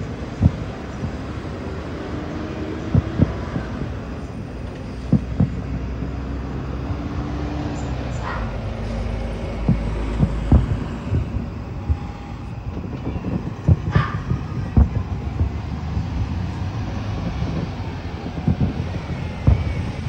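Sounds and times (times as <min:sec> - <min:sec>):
fireworks booming: 0:00.0 - 0:20.0
steady low rumble: 0:00.0 - 0:20.0.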